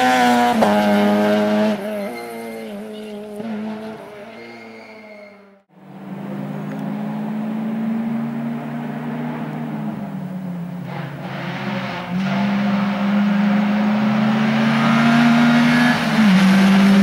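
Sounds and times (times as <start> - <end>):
rally car engine revving: 0.0 - 4.8, 5.4 - 17.0.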